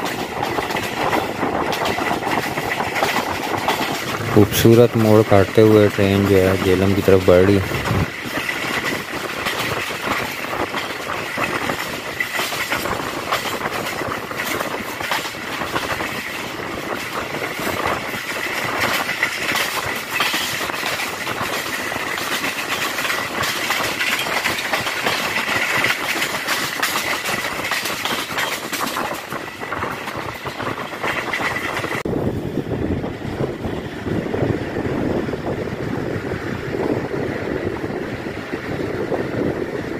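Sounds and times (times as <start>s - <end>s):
train wheels clattering: 0.0s - 32.1s
train high whine: 0.0s - 39.9s
train rushing noise: 0.0s - 39.9s.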